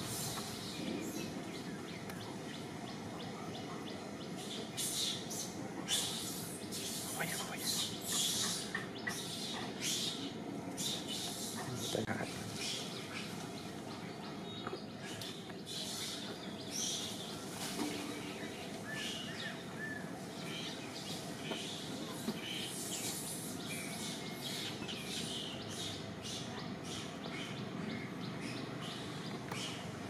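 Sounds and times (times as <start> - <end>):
birds chirping: 0.0 - 30.0
faint constant hum: 0.0 - 30.0.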